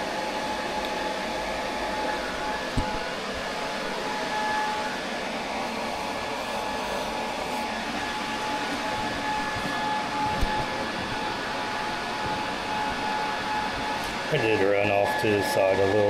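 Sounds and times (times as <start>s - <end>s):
faint steady whine: 0.0s - 16.0s
machine whirring: 0.0s - 16.0s.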